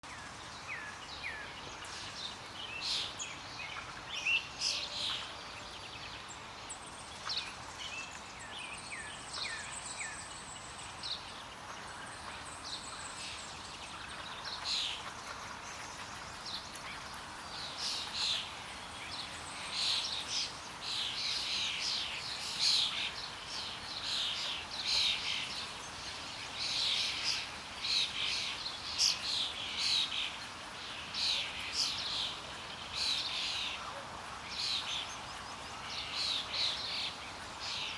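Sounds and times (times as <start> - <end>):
faint steady hiss: 0.0 - 37.9
small birds chirping: 0.0 - 37.9.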